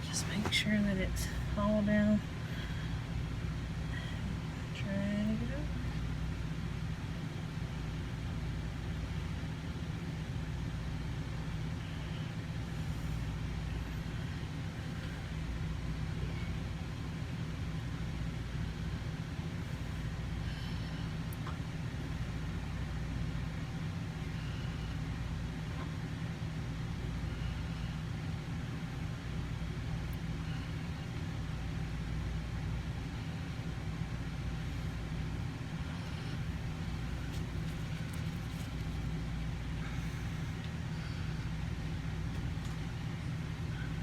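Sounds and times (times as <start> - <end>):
low background hum: 0.0 - 44.0.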